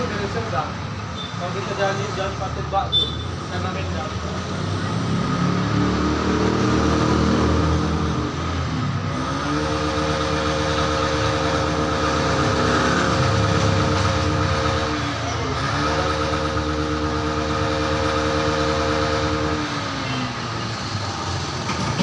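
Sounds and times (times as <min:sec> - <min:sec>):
road noise: 0:00.0 - 0:22.0
vehicle engine shifting gears: 0:00.0 - 0:22.0.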